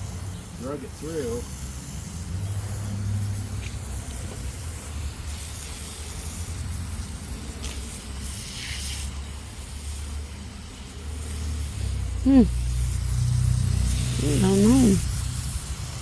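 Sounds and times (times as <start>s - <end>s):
water spraying and hissing: 0.0s - 16.0s.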